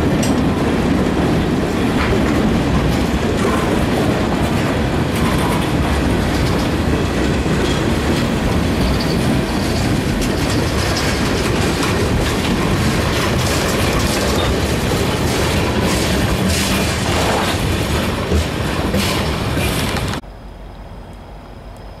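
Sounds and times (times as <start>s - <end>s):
wheels clicking over rail joints: 0.0s - 20.2s
freight train rumbling past: 0.0s - 21.8s.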